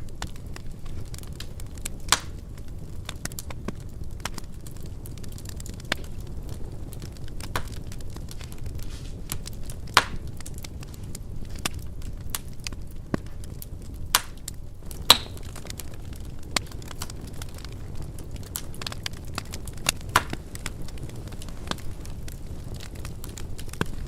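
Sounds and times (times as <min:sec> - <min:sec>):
wood fire crackling: 0:00.0 - 0:24.0
sharp pops and snaps: 0:00.2 - 0:06.1, 0:07.0 - 0:17.7, 0:18.4 - 0:24.0.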